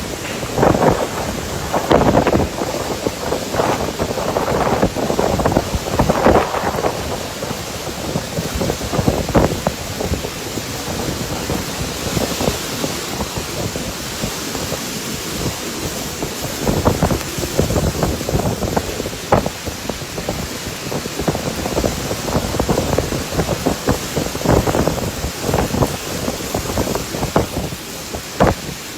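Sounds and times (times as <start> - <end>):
gusting storm wind: 0.0 - 28.9
rain falling: 0.0 - 28.9
wind buffeting microphone: 0.0 - 28.9.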